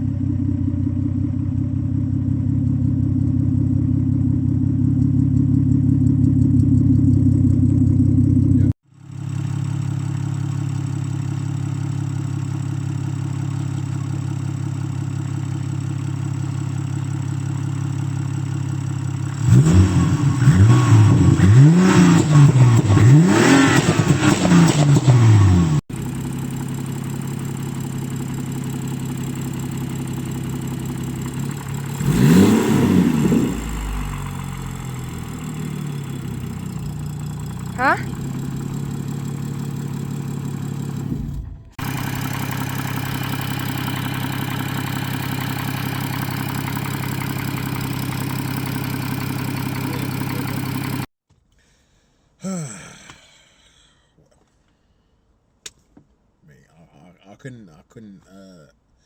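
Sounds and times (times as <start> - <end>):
car engine idling and revving: 0.0 - 51.1.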